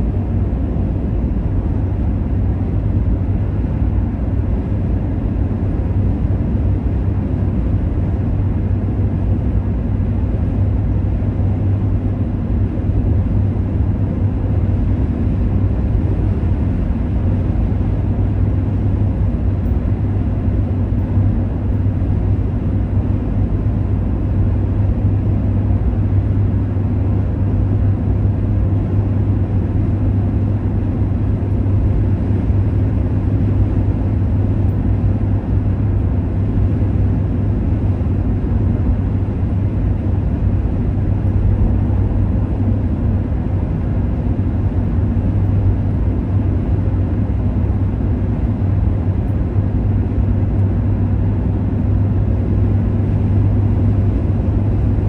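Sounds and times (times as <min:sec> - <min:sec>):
car road noise from inside cabin: 0:00.0 - 0:55.0
low hum: 0:00.0 - 0:55.0.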